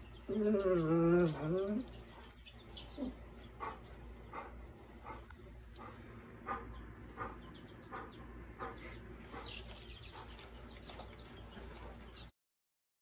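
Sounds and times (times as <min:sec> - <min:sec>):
chicks peeping: 0:00.0 - 0:12.3.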